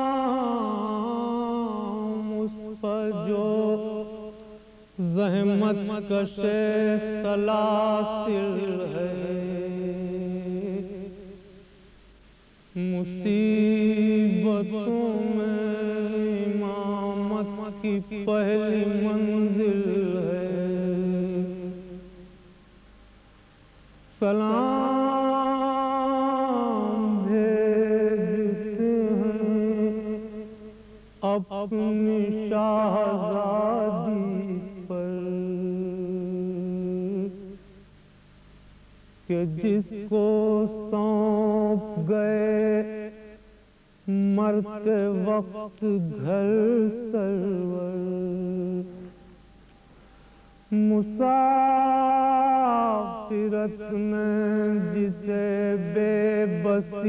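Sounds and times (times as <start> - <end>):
man chanting: 0.0 - 11.6, 12.7 - 22.4, 24.1 - 37.6, 39.3 - 49.5, 50.6 - 57.0.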